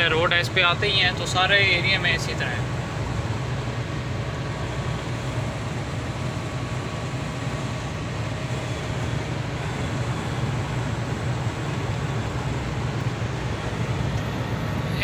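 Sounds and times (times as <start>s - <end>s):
faint hum: 0.0s - 15.0s
truck engine drone in cab: 0.0s - 15.0s.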